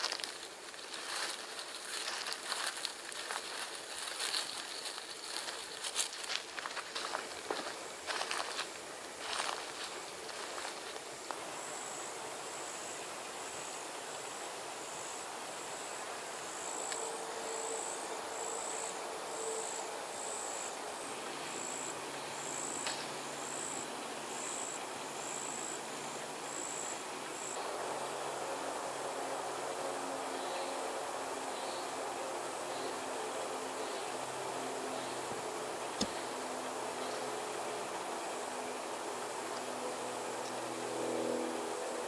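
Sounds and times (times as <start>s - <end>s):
insect chirping: 0.0s - 41.6s.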